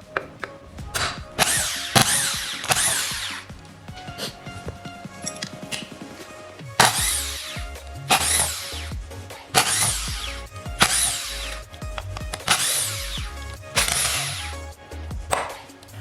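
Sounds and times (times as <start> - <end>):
electronic music: 0.0 - 16.0.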